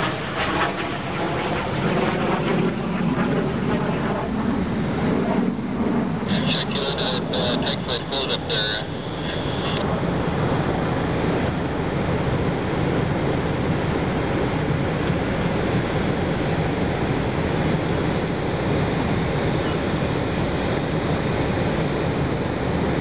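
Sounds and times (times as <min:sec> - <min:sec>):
jet engines at taxi power: 0:00.0 - 0:23.0.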